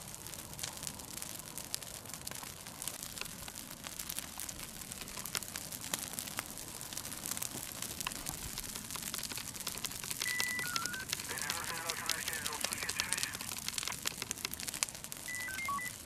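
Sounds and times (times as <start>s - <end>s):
brush fire crackling: 0.0s - 16.0s
fire hissing: 0.0s - 16.0s.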